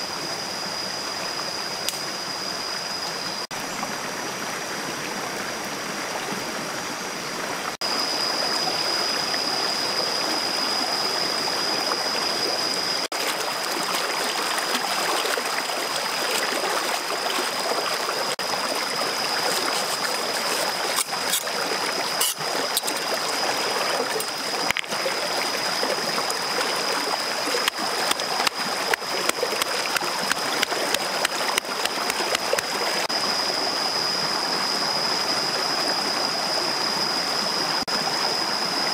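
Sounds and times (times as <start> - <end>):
stream rushing over rocks: 3.5 - 38.9.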